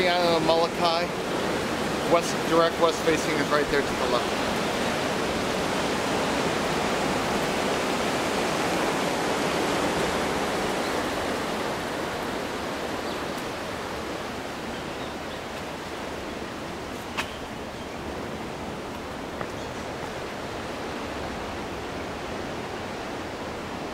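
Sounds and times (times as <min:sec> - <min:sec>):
ocean surf rushing: 0:00.0 - 0:23.9.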